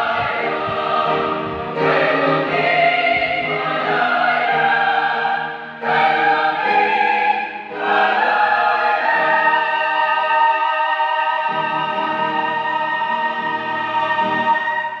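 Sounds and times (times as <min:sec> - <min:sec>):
mixed choir singing: 0:00.0 - 0:15.0
piano: 0:00.0 - 0:15.0.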